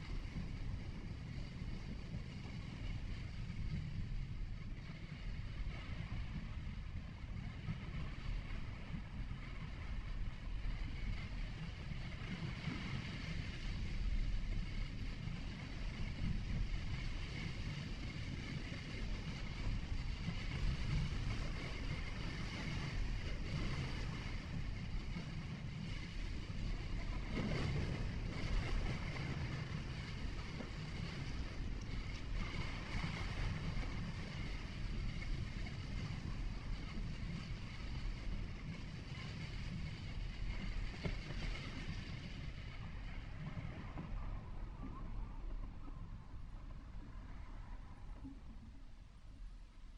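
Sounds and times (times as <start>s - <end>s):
car engine and tyre rumble: 0.0s - 49.9s
wind and road noise hiss: 0.0s - 49.9s.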